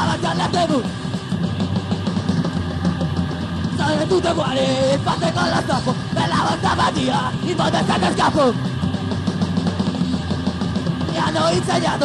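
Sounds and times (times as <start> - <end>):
punk rock band playing: 0.0 - 12.0.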